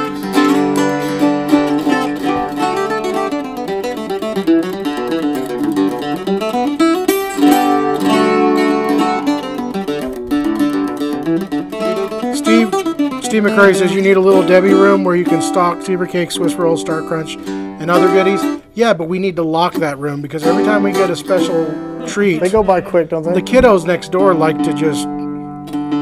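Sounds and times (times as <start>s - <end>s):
picked mandolin: 0.0s - 26.0s.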